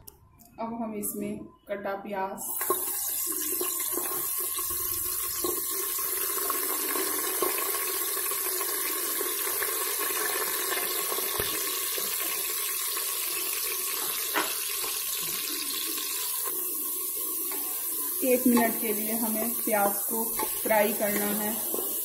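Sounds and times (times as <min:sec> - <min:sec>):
onions sizzling in hot oil: 0:02.5 - 0:22.0.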